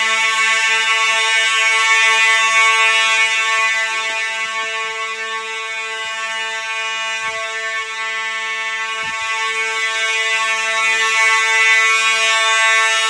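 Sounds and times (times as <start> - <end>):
fire alarm horn buzzing: 0.0 - 13.0.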